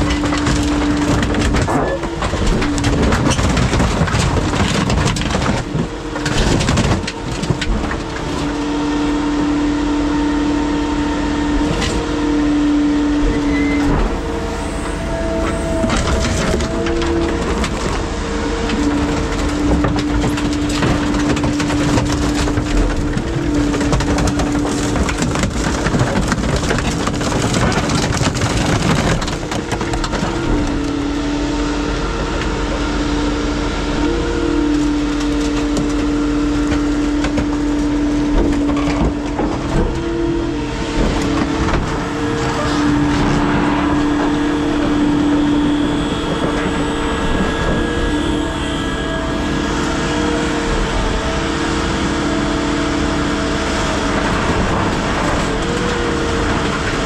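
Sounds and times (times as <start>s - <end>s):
hydraulic machinery whining: 0.0s - 57.0s
scrap metal clanking and crunching: 0.0s - 57.0s.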